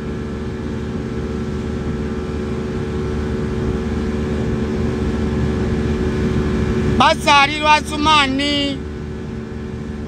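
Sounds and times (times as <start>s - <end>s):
motorboat engine running: 0.0s - 10.0s
rush of wind and water: 0.0s - 10.0s.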